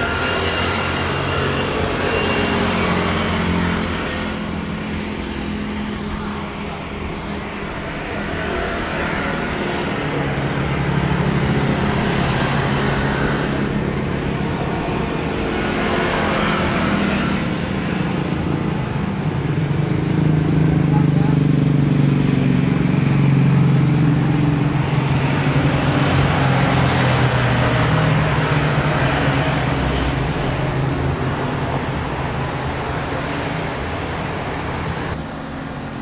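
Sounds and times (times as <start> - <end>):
distant jet engines roaring: 0.0 - 36.0.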